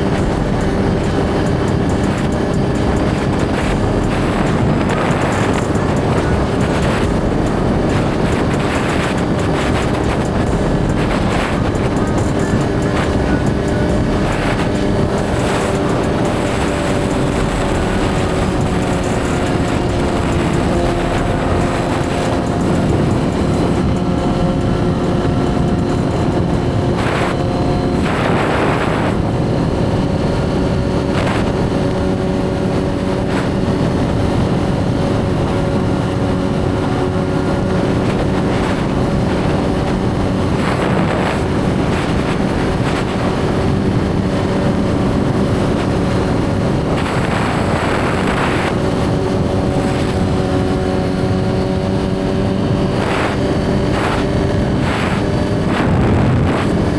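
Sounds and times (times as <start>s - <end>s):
motorcycle engine cruising: 0.0s - 56.9s
rushes of noise: 0.0s - 56.9s.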